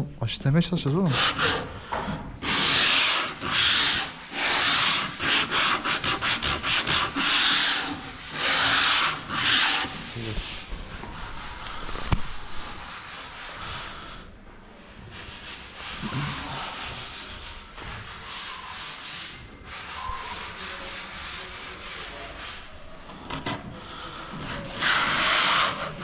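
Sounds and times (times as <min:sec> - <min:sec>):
sandpaper rubbing on wood: 0:00.8 - 0:14.3, 0:15.0 - 0:26.0.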